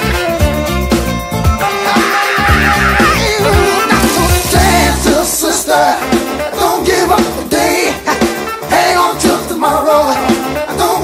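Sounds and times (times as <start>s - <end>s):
song with sung vocal over beat: 1.7s - 11.0s.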